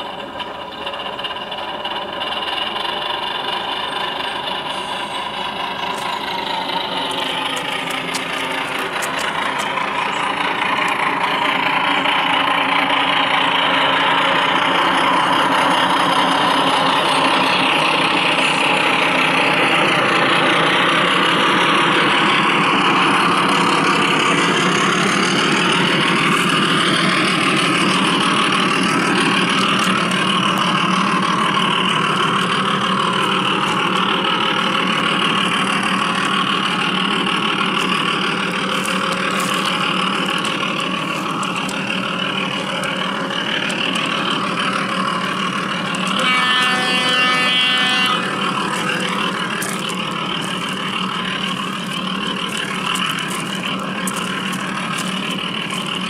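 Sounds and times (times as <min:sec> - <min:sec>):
diesel engine sound from speaker: 0:00.0 - 0:56.0.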